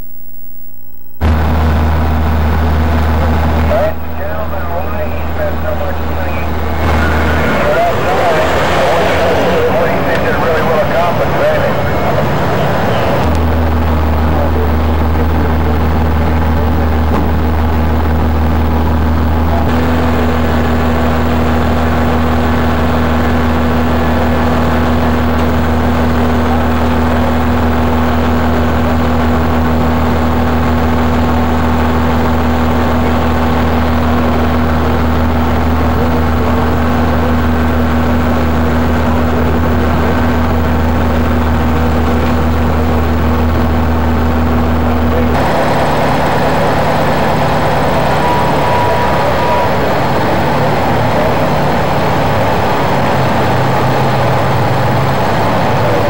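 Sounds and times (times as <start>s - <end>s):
constant higher tone: 0.0s - 56.0s
low hum: 0.0s - 56.0s
fire truck engine running: 1.2s - 56.0s.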